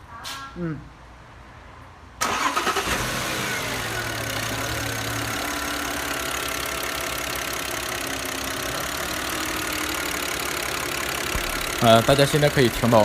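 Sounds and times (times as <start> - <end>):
car engine idling: 2.2 - 13.0.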